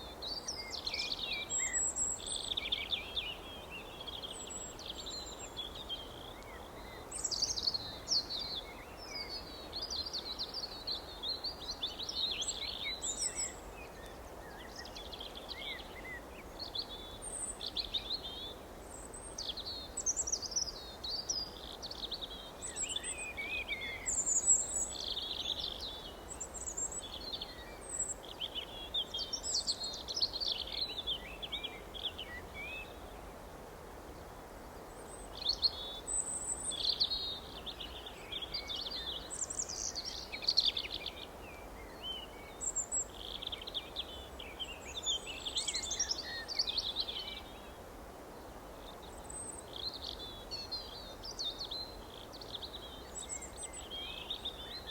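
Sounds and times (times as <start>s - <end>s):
faint background hiss: 0.0s - 54.9s
songbirds chirping: 0.0s - 54.9s.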